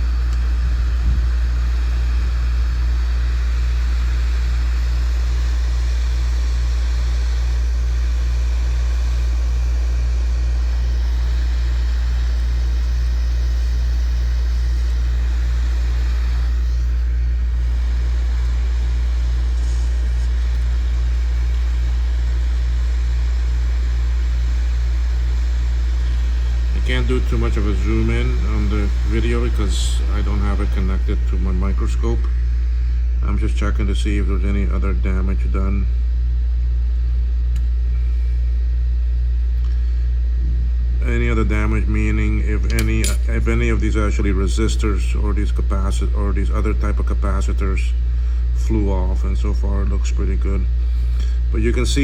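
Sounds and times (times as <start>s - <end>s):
hot air station blowing: 0.0s - 52.0s.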